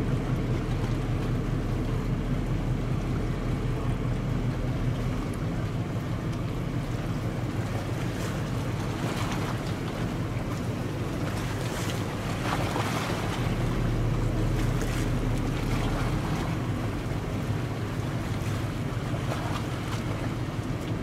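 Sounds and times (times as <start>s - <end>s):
ferry engines rumbling: 0.0s - 21.0s.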